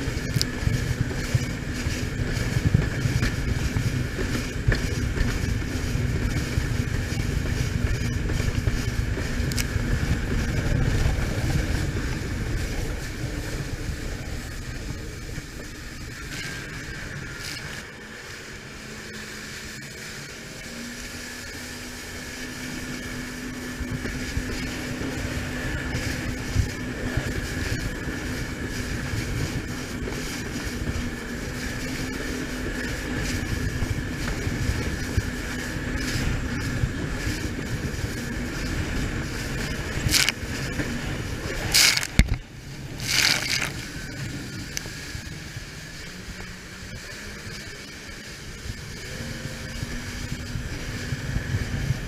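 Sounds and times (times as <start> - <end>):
rush of wind and water: 0.0 - 52.0
watercraft engine running: 0.0 - 52.0.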